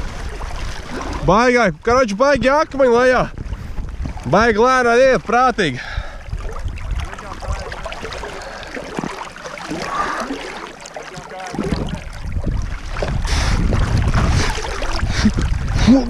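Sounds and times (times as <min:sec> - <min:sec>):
water splashing around wading legs: 0:00.0 - 0:01.8, 0:03.3 - 0:16.0
wind rumble on microphone: 0:00.0 - 0:09.1, 0:11.5 - 0:16.0.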